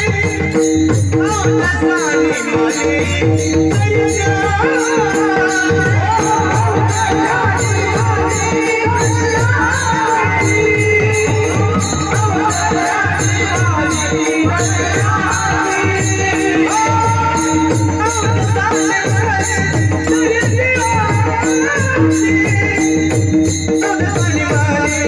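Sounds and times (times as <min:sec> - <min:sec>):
rattling tambourine-like percussion: 0:00.0 - 0:25.0
steady drum beat: 0:00.0 - 0:25.0.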